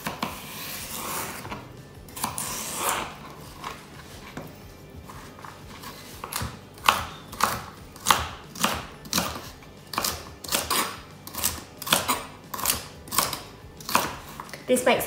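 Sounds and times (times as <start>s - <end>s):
knife chopping celery on board: 0.0s - 4.4s, 5.2s - 14.6s.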